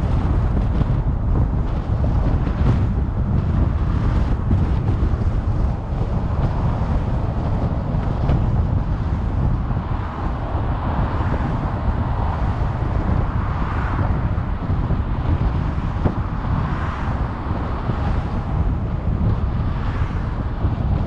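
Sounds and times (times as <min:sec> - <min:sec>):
tyre and engine rumble: 0:00.0 - 0:21.0
wind noise on microphone: 0:00.0 - 0:21.0.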